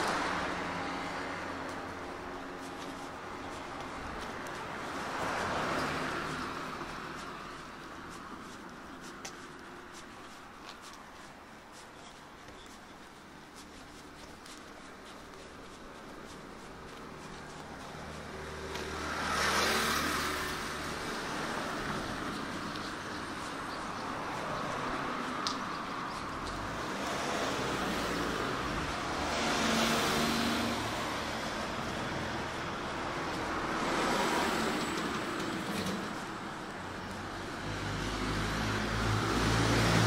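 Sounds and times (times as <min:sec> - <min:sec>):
cars passing on a street: 0:00.0 - 0:40.0
low traffic noise: 0:00.0 - 0:40.0.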